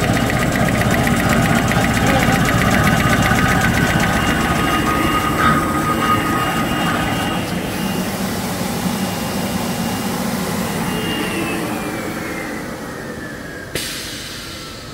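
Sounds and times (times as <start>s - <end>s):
blower rushing hum: 0.0s - 14.9s
high whine falling in pitch: 0.0s - 14.9s.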